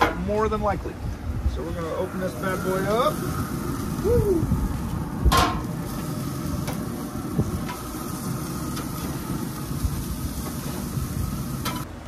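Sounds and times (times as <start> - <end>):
patties sizzling on a grill: 1.5 - 11.9.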